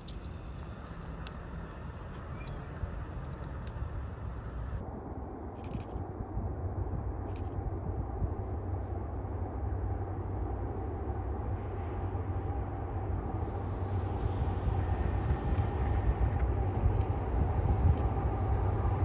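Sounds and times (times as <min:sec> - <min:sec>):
distant locomotive rumble: 0:00.0 - 0:19.0.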